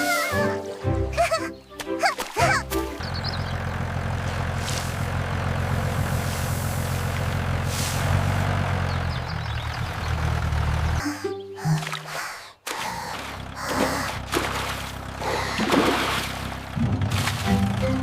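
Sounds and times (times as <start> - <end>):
tractor engine rumbling: 2.4 - 18.0.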